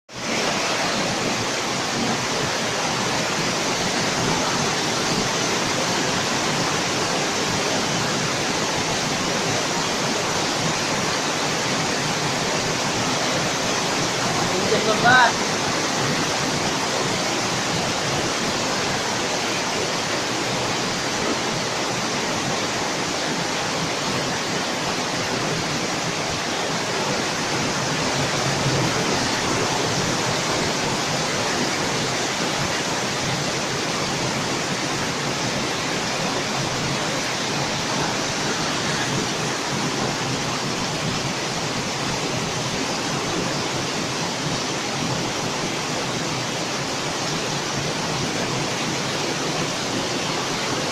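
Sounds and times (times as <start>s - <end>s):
heavy rain pouring: 0.1s - 50.9s.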